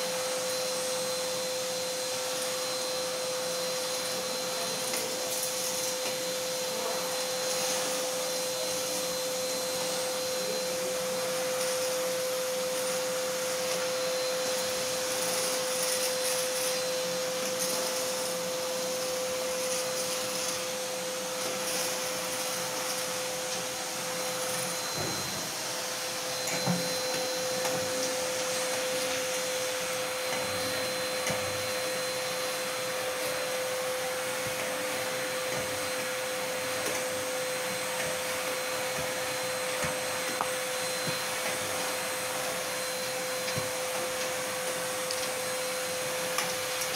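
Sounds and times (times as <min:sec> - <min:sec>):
vacuum cleaner whining: 0:00.0 - 0:46.9.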